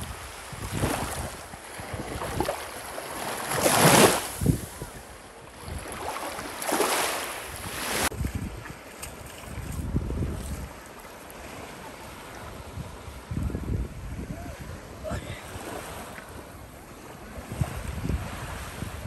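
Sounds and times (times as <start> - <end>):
wind buffeting microphone: 0.0 - 2.6, 3.6 - 6.4, 7.5 - 11.0, 12.3 - 19.0
small waves lapping on sand: 0.0 - 19.0.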